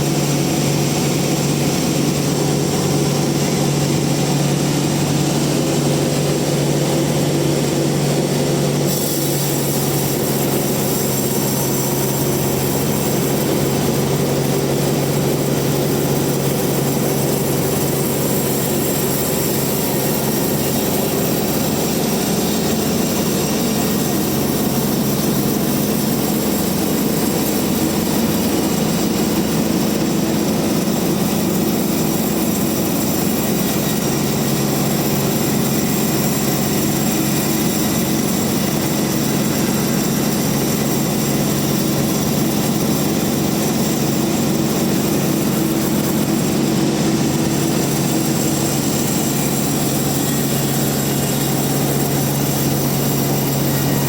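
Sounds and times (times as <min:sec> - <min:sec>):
band sawmill sawing a log: 0:00.0 - 0:54.0.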